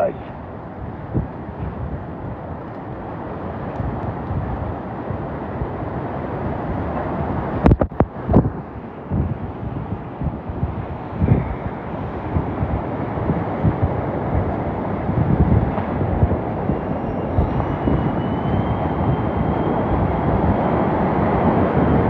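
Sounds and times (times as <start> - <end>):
strong wind blowing: 0.0 - 22.0
wind buffeting microphone: 0.0 - 22.0.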